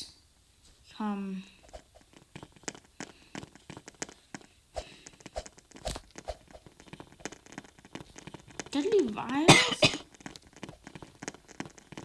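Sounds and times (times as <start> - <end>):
soft clicks and crackles: 0.6 - 12.0.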